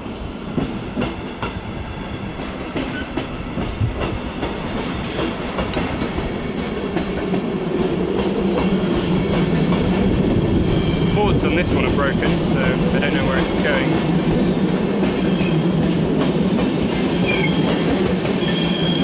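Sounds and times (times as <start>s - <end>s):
train wheels clicking over rail joints: 0.4s - 11.2s, 11.9s - 19.0s.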